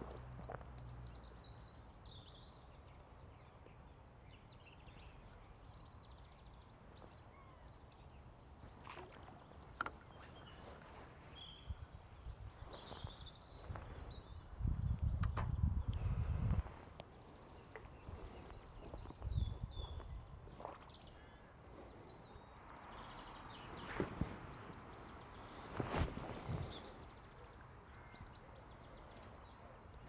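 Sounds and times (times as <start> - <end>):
songbirds twittering: 0.0 - 30.0.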